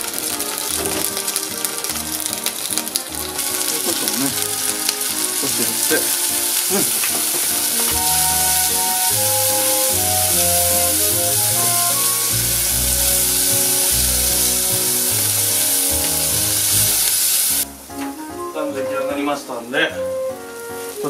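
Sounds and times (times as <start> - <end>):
asparagus sizzling in a pan: 0.0 - 18.2, 20.4 - 21.0
background music: 0.0 - 21.0.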